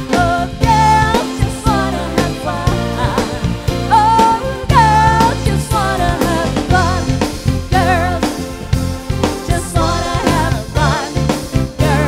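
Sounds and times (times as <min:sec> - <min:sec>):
woman singing: 0:00.0 - 0:08.5, 0:09.2 - 0:12.0
drum kit: 0:00.0 - 0:12.0
electric bass guitar: 0:00.0 - 0:12.0
keyboard: 0:00.0 - 0:12.0.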